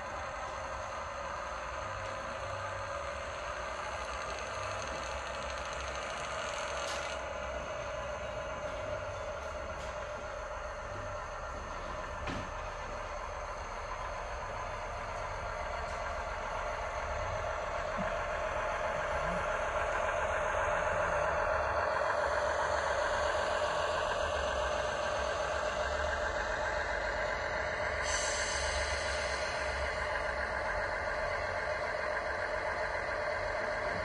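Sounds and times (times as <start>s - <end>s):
diesel railbus engine sound from speaker: 0.0s - 34.0s.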